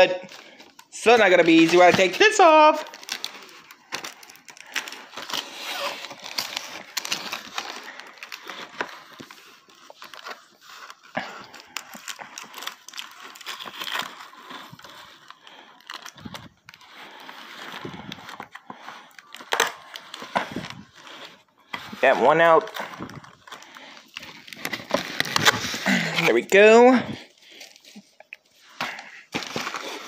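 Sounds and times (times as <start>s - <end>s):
hands rustling packaging: 0.0s - 30.0s.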